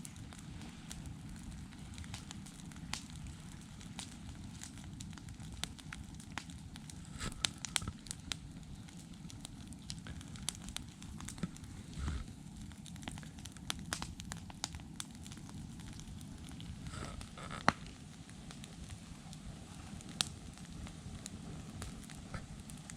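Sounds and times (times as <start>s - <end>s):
fire low rumble: 0.0s - 22.9s
wood crackling and popping: 0.0s - 22.9s.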